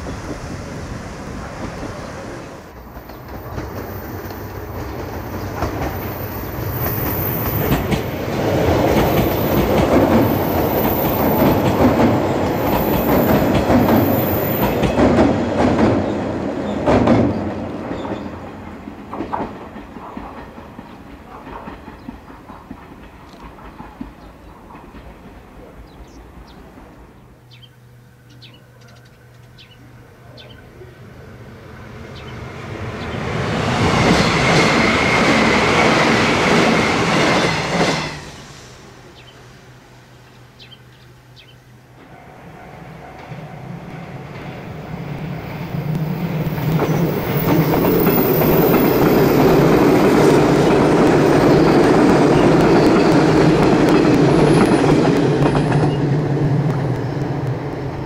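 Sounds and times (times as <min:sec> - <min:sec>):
train rumbling over bridge: 0:00.0 - 0:58.0.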